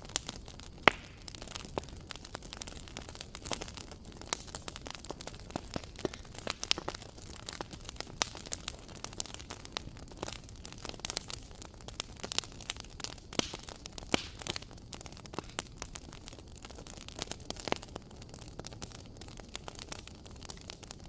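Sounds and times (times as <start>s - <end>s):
low rumble of flames: 0.0s - 21.0s
wood fire crackling and popping: 0.0s - 21.0s.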